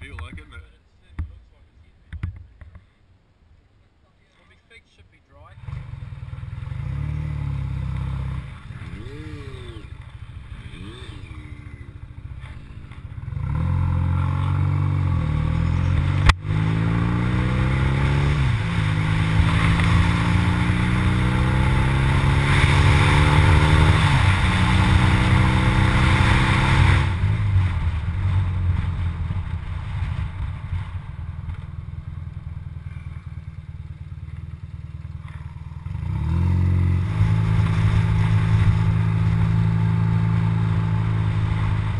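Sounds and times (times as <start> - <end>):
motorcycle engine accelerating: 5.5 - 41.9.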